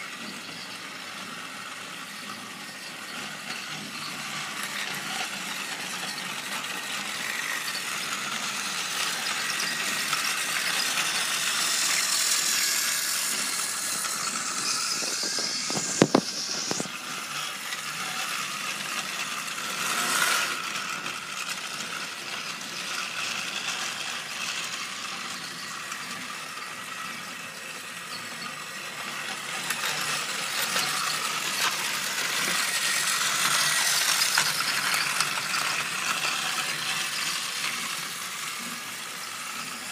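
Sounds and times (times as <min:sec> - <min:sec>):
toy train motor whir: 0:00.0 - 0:39.9.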